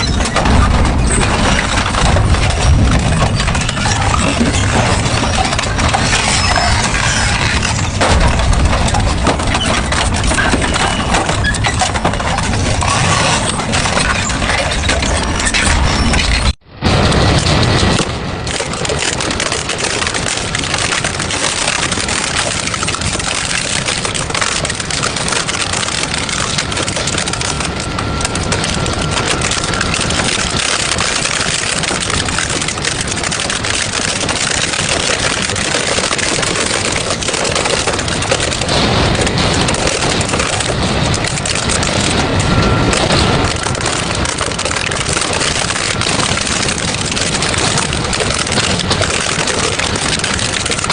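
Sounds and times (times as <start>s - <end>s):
metal crunching and clanking: 0.0s - 50.9s
shredder machine drone: 0.0s - 50.9s.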